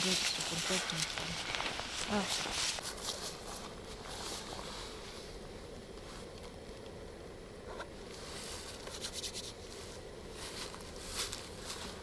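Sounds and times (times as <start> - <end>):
gas burner running: 0.0 - 12.0.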